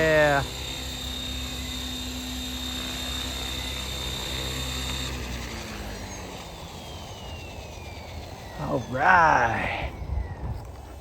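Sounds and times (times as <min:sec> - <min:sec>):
rc helicopter motor whine: 0:00.0 - 0:11.0
rotor spooling down: 0:00.0 - 0:11.0.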